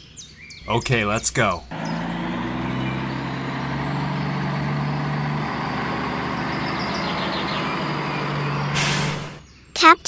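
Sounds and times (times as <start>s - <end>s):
tractor engine humming: 0.8s - 9.4s.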